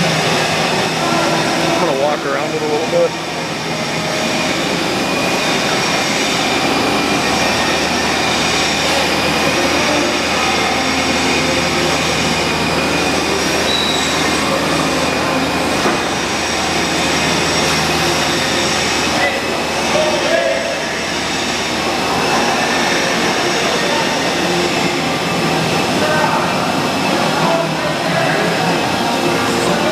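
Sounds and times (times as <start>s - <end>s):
high thin whining tones: 0.0s - 29.9s
machine running: 0.0s - 29.9s.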